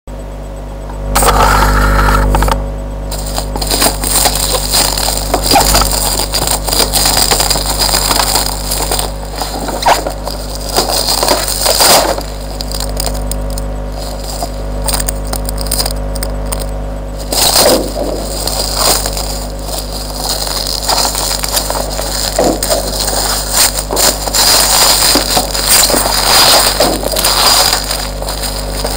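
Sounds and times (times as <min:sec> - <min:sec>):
steady low hum: 0:00.1 - 0:28.9
plastic and cardboard packaging crinkling: 0:03.1 - 0:28.9.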